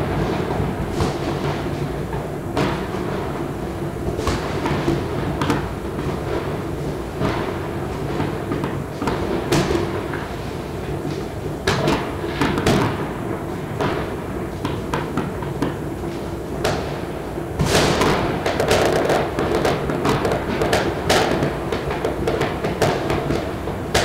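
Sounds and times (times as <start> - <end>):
firecrackers banging: 0.0 - 24.0
steady background hum: 0.0 - 24.0.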